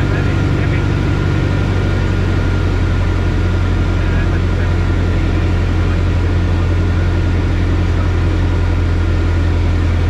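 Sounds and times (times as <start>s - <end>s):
propeller aircraft engine drone: 0.0s - 10.0s.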